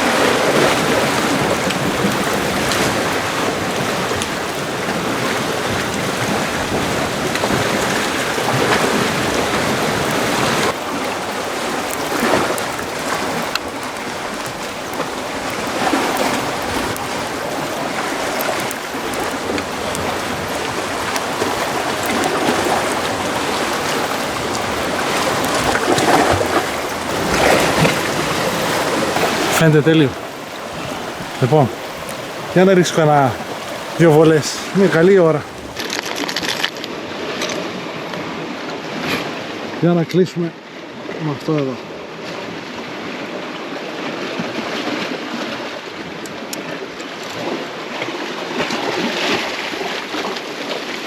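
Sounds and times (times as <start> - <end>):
water rushing at the shore: 0.0 - 51.0.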